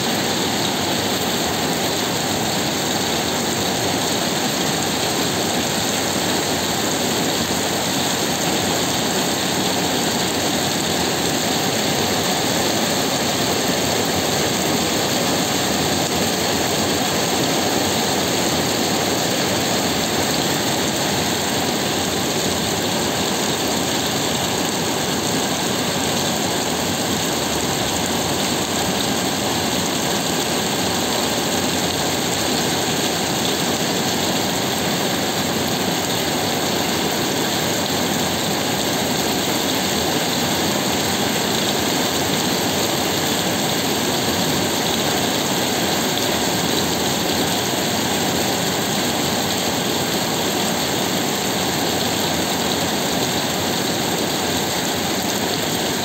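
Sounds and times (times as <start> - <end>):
heavy rain on the sea: 0.0 - 56.0.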